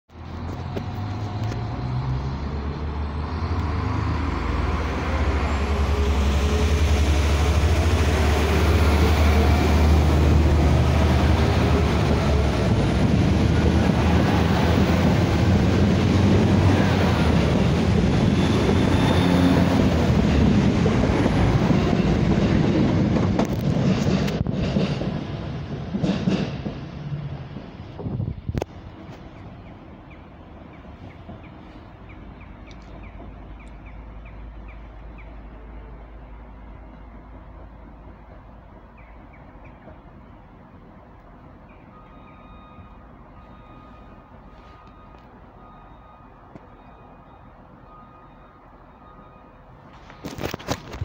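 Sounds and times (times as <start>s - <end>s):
train wheels rumbling on rails: 0.1s - 42.1s
diesel train engine hum: 0.1s - 51.0s.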